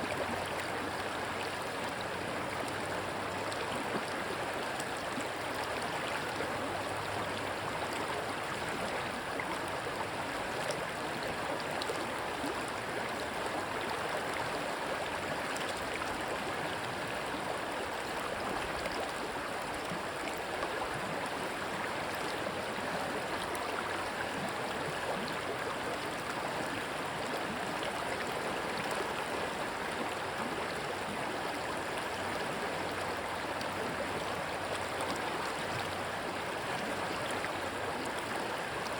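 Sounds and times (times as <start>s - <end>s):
rushing stream water: 0.0s - 38.9s.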